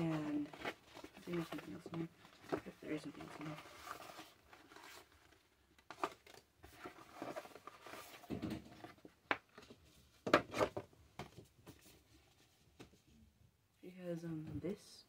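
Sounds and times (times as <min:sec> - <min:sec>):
cardboard rustling and scraping: 0:00.0 - 0:13.1.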